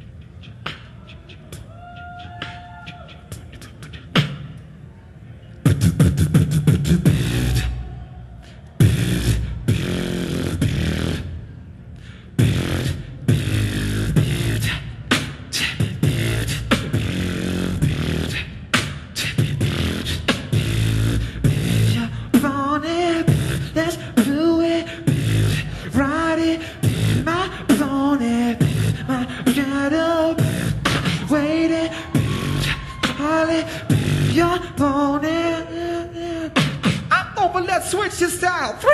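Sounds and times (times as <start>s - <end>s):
beatboxing: 0.0s - 4.8s, 5.6s - 38.9s.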